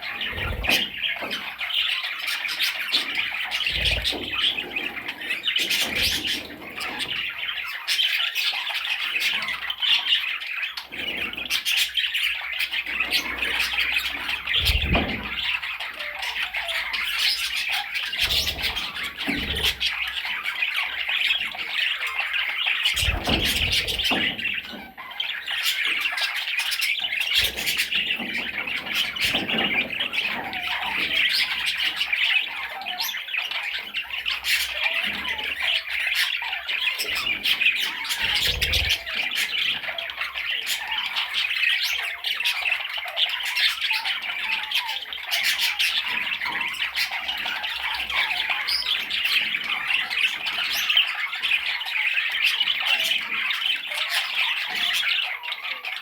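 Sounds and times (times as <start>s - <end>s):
budgerigar chattering and squawking: 0.0s - 56.0s.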